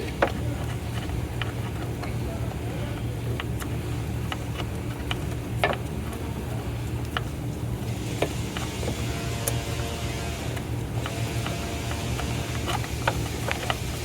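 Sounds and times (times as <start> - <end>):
light clicks and handling: 0.0 - 9.0, 10.5 - 14.0
low mechanical hum: 0.0 - 14.0.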